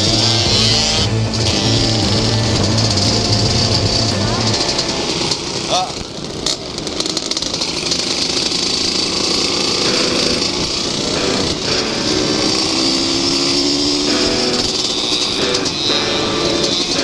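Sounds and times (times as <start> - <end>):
two-stroke motorcycle engine: 0.0 - 17.0.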